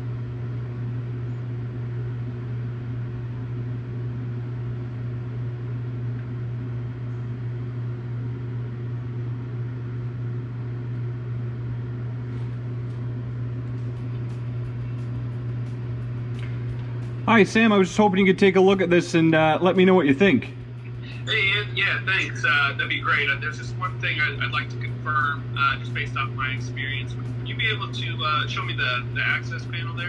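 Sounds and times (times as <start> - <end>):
electrical equipment humming: 0.0 - 30.0.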